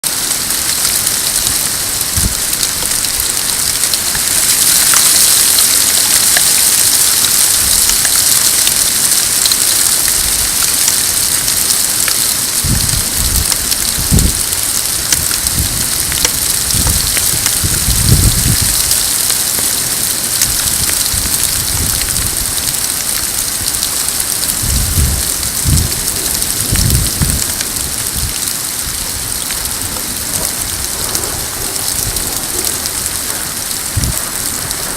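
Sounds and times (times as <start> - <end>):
hail and heavy rain pelting: 0.0 - 34.9
thunder rumbling: 0.1 - 34.9.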